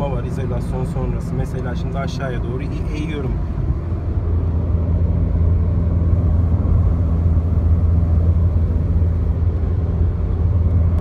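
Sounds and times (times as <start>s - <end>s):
road and engine drone in car: 0.0s - 11.0s.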